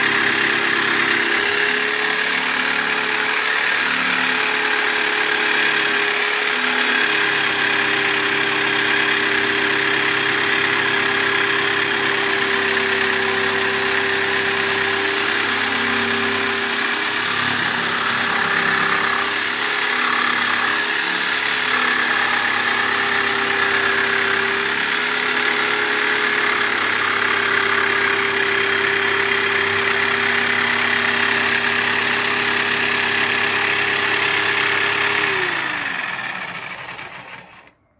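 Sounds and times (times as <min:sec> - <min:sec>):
jigsaw cutting wood: 0:00.0 - 0:37.9.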